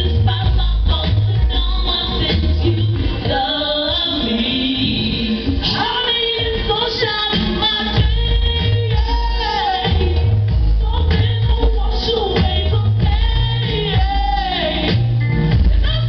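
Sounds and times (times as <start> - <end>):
band with strong bass: 0.0 - 16.0
voices singing gospel: 0.0 - 16.0.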